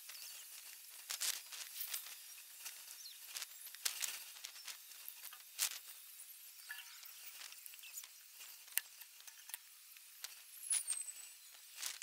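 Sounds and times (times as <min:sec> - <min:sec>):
soft high hiss: 0:00.0 - 0:12.0.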